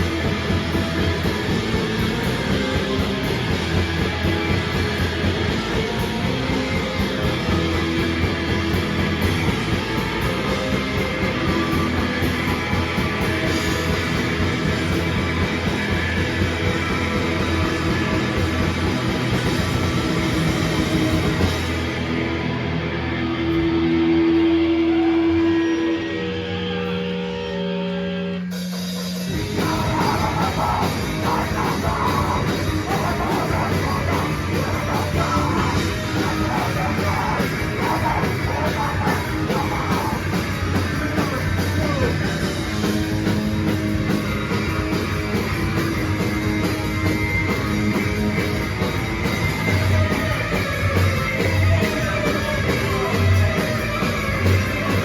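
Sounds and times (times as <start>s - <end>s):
drums crashing: 0.0s - 22.7s, 28.4s - 55.0s
live rock band: 0.0s - 55.0s.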